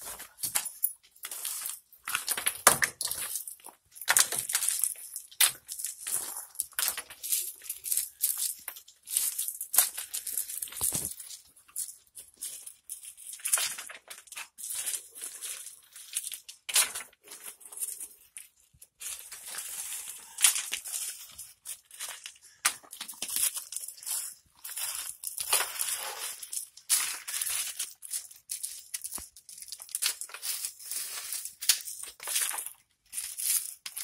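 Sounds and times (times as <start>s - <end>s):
irregular crunching and scraping: 0.0s - 34.0s.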